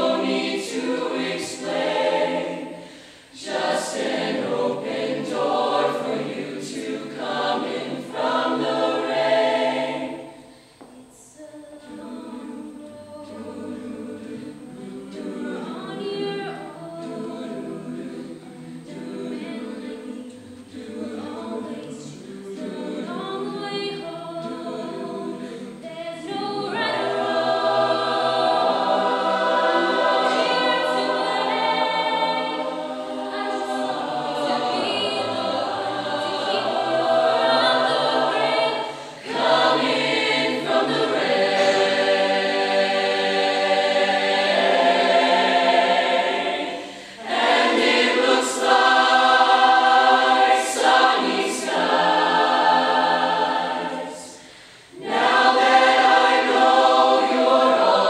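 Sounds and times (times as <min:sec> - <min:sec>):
choir singing a slow ballad: 0:00.0 - 0:58.0.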